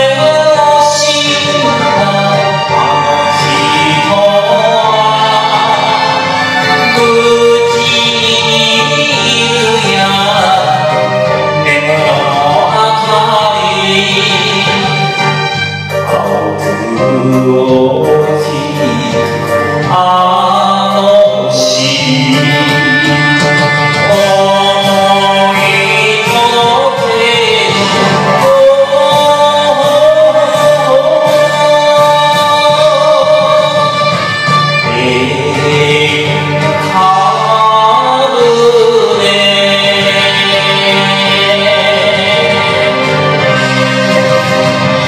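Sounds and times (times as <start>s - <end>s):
karaoke backing band: 0.0s - 45.0s
person singing: 0.0s - 45.0s.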